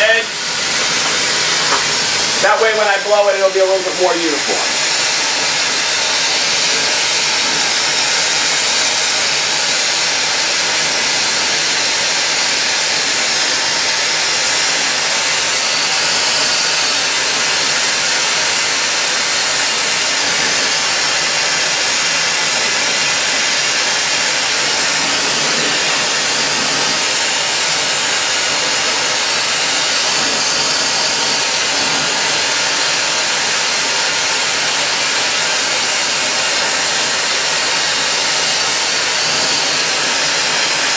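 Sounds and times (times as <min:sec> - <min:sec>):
torch flame hissing: 0:00.0 - 0:40.9.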